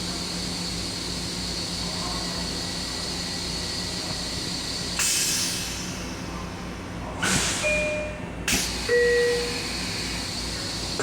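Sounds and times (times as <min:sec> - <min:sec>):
railcar interior hum: 0:00.0 - 0:11.0.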